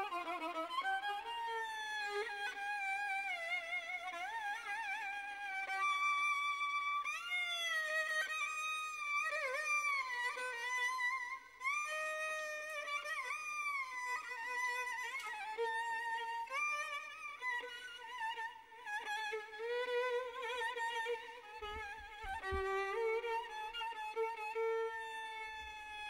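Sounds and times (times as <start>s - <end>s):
solo violin slow melody: 0.0s - 26.0s.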